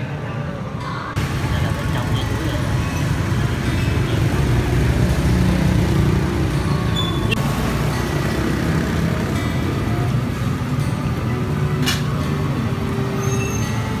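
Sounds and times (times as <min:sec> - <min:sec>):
vehicle engine rumbling: 0:01.2 - 0:14.0.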